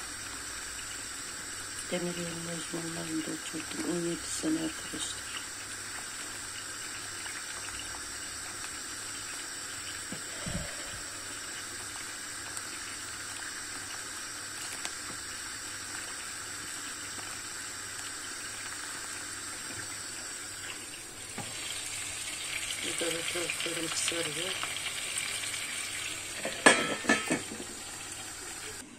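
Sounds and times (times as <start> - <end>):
soup bubbling in a pot: 0.0 - 28.9.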